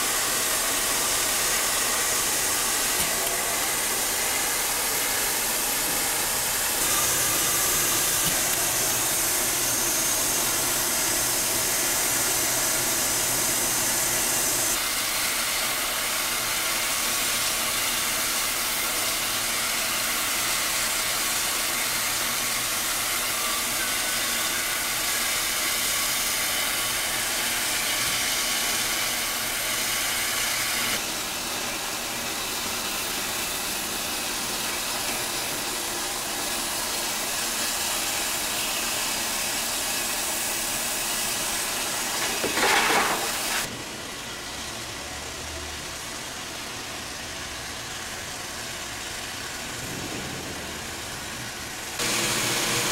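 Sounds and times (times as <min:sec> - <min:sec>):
steam hissing from locomotive: 0:00.0 - 0:52.9.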